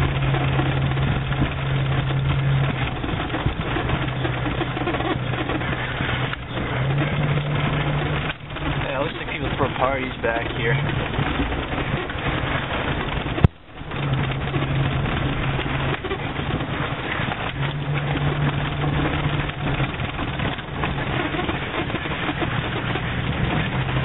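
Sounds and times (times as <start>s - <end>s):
car engine droning: 0.0s - 24.0s
road and body noise: 0.0s - 24.0s.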